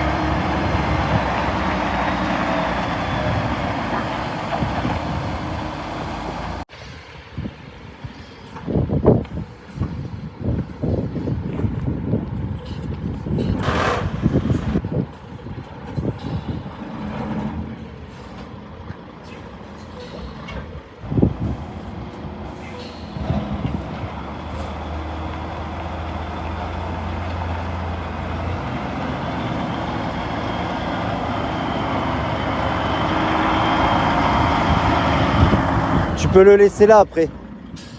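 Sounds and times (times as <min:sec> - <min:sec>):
suction excavator truck running: 0:00.0 - 0:06.7, 0:07.7 - 0:37.9.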